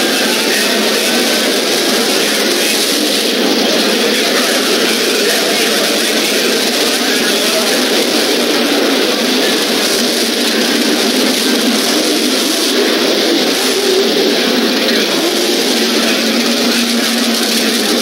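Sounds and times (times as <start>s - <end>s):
race car engines running loud: 0.0s - 18.0s.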